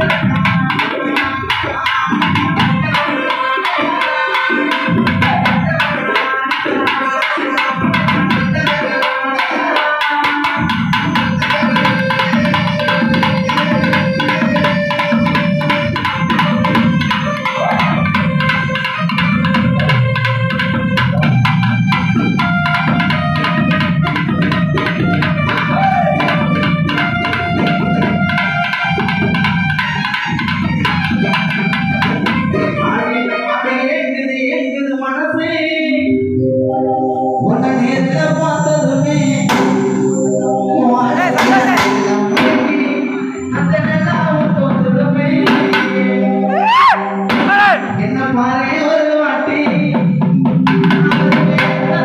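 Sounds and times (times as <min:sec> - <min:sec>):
barrel drums played fast: 0:00.0 - 0:32.9, 0:39.3 - 0:40.2, 0:41.2 - 0:42.9, 0:43.6 - 0:48.2, 0:49.6 - 0:52.0
held pitched melody line: 0:00.0 - 0:34.1, 0:35.4 - 0:52.0.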